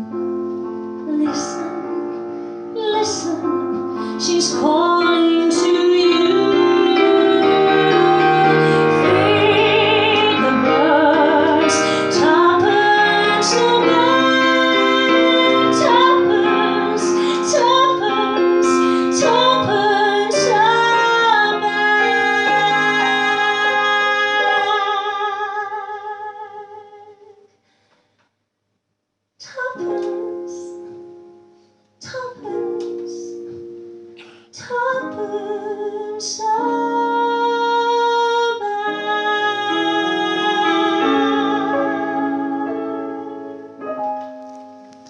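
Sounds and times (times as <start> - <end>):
piano: 0.0 - 27.9, 29.4 - 45.0
woman singing a slow ballad: 1.0 - 27.4, 29.4 - 30.8, 32.0 - 33.4, 34.5 - 43.8.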